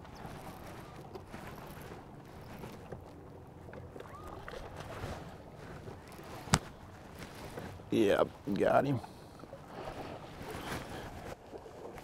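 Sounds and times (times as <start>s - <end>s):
wind and water around boat hull: 0.0s - 12.0s.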